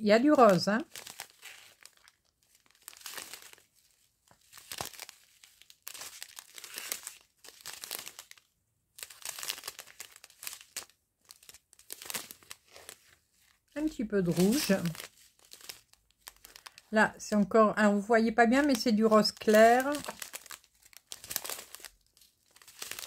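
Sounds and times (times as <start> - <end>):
plastic sachets crinkling: 0.0 - 23.0.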